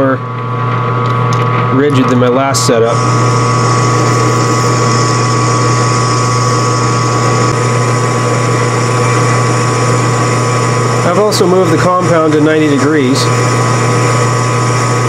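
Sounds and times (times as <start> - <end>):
metal lathe running: 2.5 - 15.0
high whining tones: 2.6 - 15.0.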